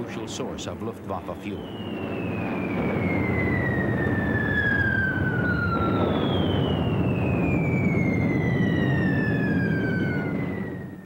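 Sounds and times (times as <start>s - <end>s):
heavy rumble: 0.0s - 11.0s
falling bomb whistles: 1.4s - 11.0s.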